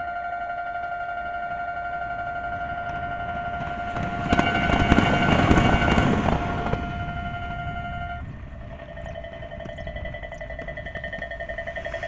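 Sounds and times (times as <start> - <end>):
level crossing alarm bell: 0.0 - 12.0
train passing: 0.0 - 12.0.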